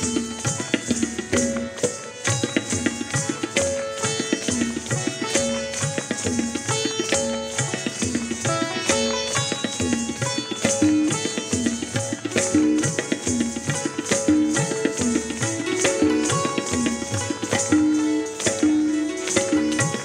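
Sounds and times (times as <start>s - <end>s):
tabla drumming: 0.0s - 20.0s.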